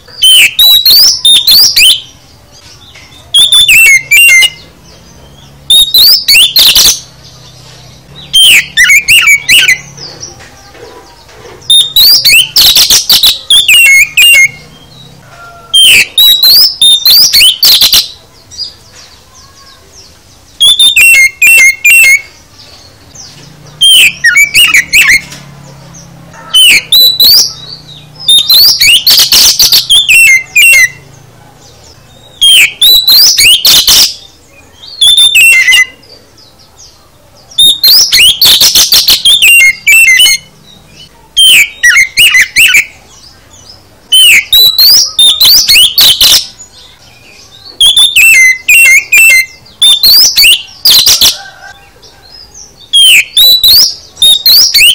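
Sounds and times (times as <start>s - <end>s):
bird singing whistles and trills: 0.0s - 54.9s.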